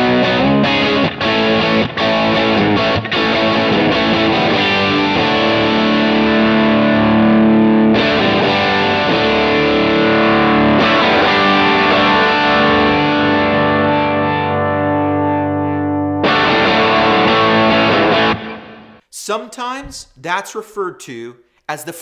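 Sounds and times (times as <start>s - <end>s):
distorted electric guitar chords: 0.0s - 19.1s.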